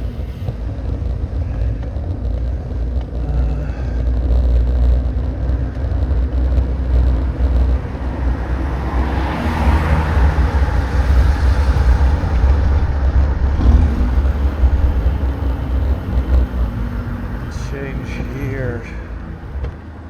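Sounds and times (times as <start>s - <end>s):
bicycle rumbling on rough road: 0.0s - 20.0s.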